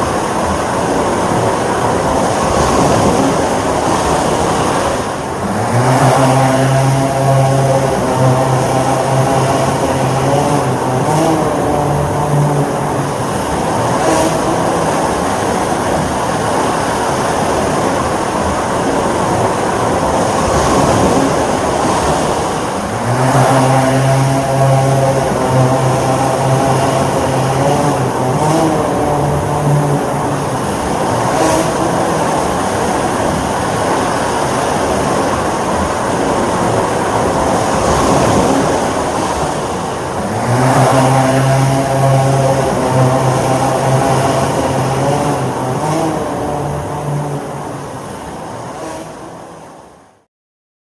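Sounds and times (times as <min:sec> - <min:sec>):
drone propellers whirring: 0:00.0 - 0:49.6.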